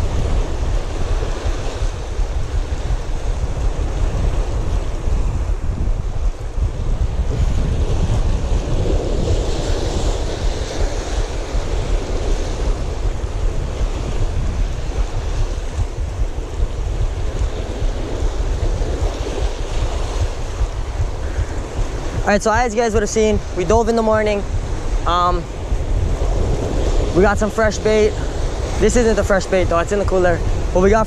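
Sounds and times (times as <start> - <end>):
surf breaking on shore: 0.0 - 31.0
wind rumble on microphone: 0.0 - 31.0.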